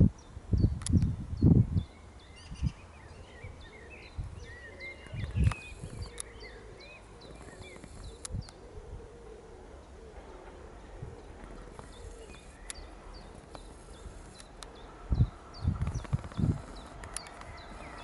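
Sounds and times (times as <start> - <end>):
small birds chirping: 0.0 - 8.7, 9.8 - 18.0.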